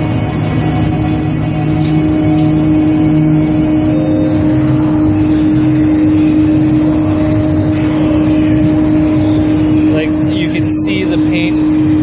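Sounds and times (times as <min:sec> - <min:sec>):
machinery droning hum: 0:00.0 - 0:12.0.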